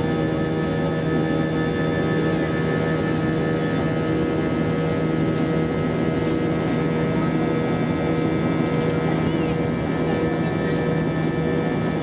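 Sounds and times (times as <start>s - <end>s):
aircraft cabin engine drone: 0.0s - 12.0s
constant whining tones: 0.0s - 12.0s.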